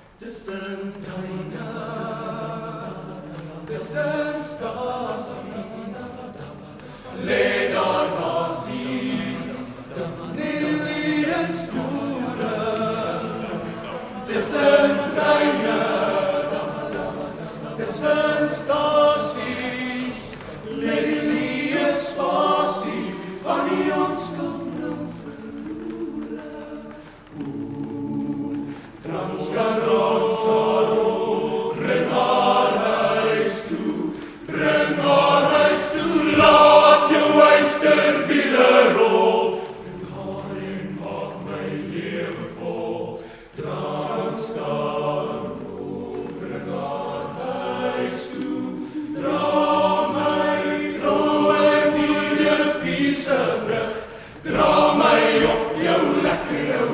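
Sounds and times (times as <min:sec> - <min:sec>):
male choir singing: 0:00.0 - 0:56.9.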